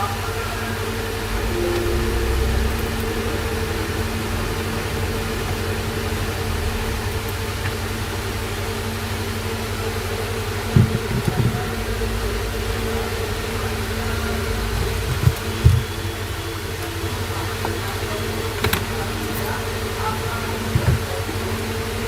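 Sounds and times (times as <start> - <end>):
low mechanical hum: 1.2 - 21.9.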